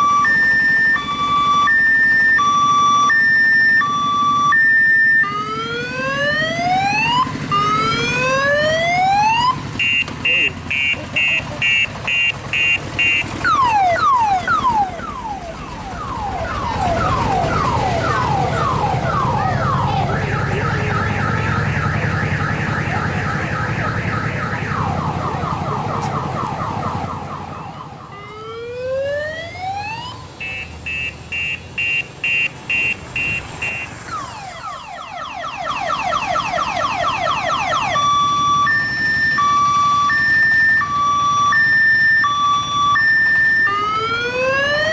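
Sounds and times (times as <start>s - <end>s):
electronic siren cycling patterns: 0.0s - 44.9s.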